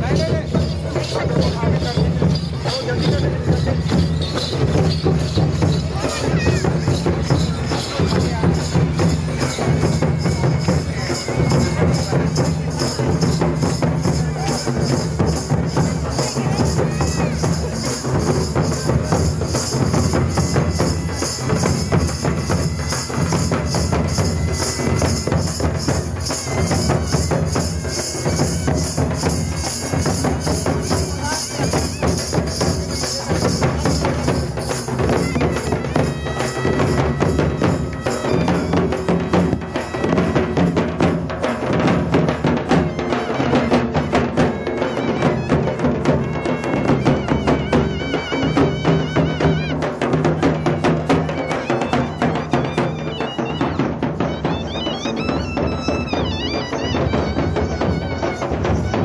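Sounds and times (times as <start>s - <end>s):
hand drums beaten: 0.0s - 59.0s
jingling metal percussion: 0.0s - 59.0s.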